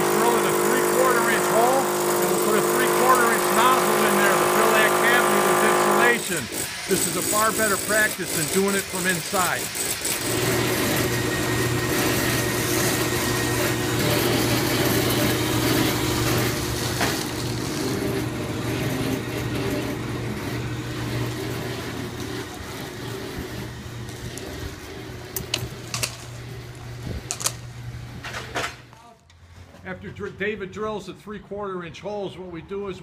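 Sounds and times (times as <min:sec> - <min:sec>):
insulation blowing machine rushing: 0:00.0 - 0:28.4.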